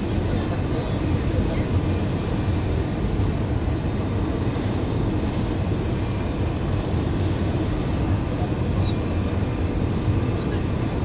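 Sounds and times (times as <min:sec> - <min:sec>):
jet engine and airflow rumble: 0:00.0 - 0:11.0.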